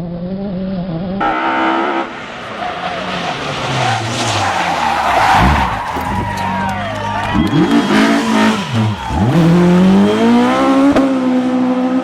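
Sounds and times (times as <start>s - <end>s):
rally car engine: 0.0s - 12.0s
rally car engine revving: 0.0s - 12.0s
tyres skidding: 1.2s - 12.0s.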